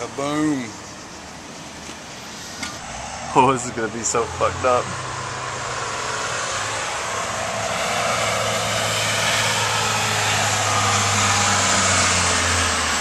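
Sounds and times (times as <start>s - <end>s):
vehicle engine passing: 0.9s - 13.0s.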